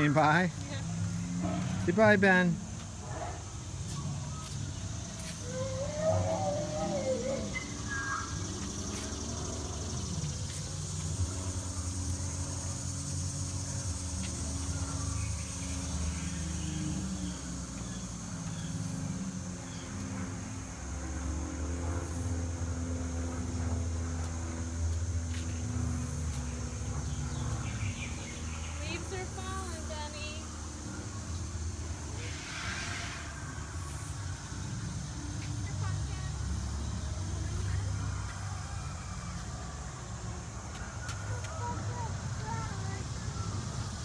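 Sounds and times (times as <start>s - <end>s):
high insect buzz: 0.0s - 41.0s
low mechanical drone: 0.0s - 44.0s.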